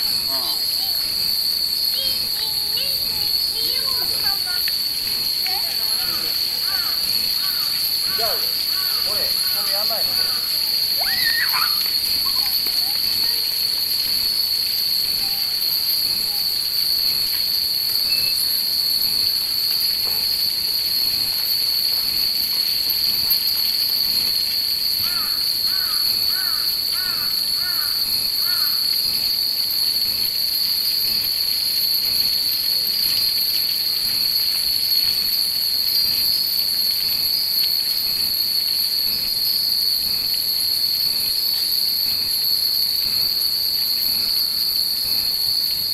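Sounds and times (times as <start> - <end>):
steady high hiss: 0.0 - 45.9.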